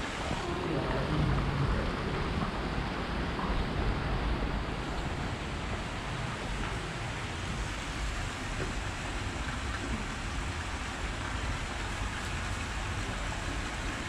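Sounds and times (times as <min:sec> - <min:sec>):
falling water rushing: 0:00.0 - 0:14.0
wind rumble on microphone: 0:00.0 - 0:14.0.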